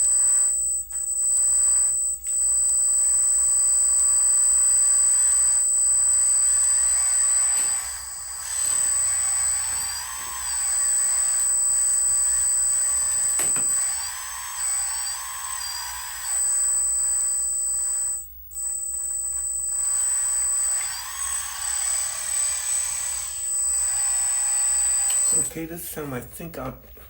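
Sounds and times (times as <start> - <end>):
hydraulic pump whining: 0.0 - 25.7.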